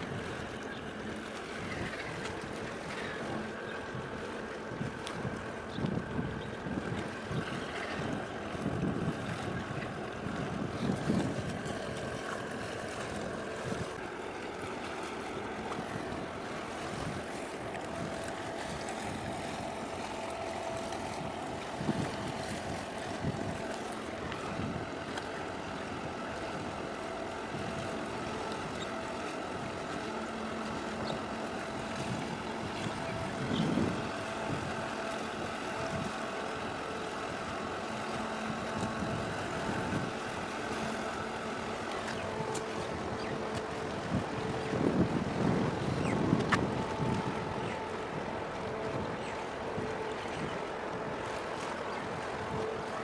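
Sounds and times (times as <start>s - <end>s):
large ship hum: 0.0s - 53.0s
wind buffeting microphone: 0.0s - 53.0s.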